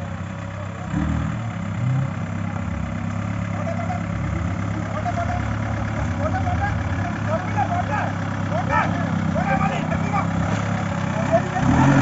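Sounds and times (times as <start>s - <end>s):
jeep engine running at low revs: 0.0s - 12.0s.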